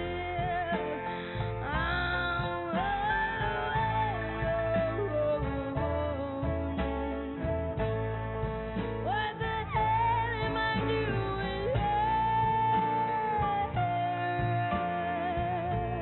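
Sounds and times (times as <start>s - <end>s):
jazz band with steady bass: 0.0s - 16.0s.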